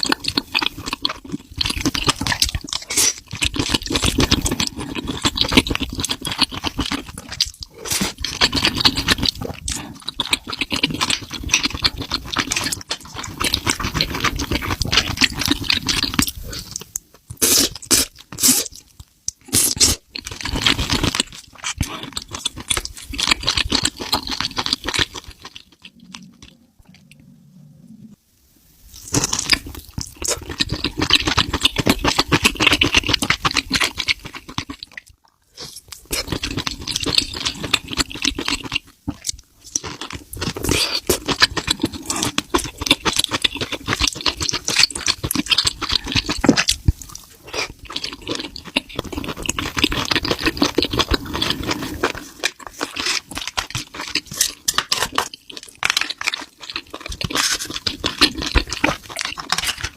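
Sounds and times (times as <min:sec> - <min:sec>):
chewing and crunching food: 0:00.0 - 0:27.4, 0:28.9 - 0:59.9.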